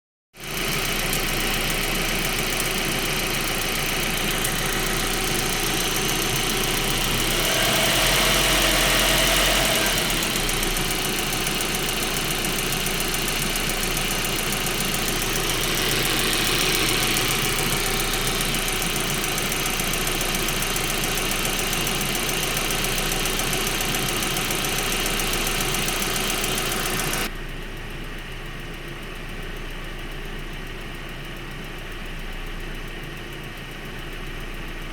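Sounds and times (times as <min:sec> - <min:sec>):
car engine running with ticking: 0:00.4 - 0:34.9.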